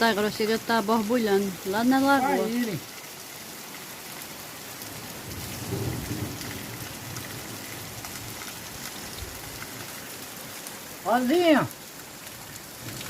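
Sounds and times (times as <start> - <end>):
heavy rain on pond: 0.0 - 13.0.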